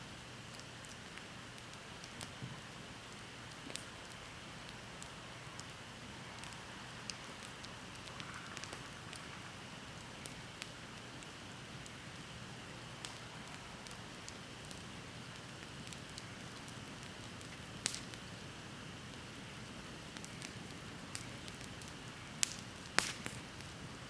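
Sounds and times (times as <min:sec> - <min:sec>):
fire background hiss: 0:00.0 - 0:24.0
bonfire crackling pops: 0:00.4 - 0:24.0.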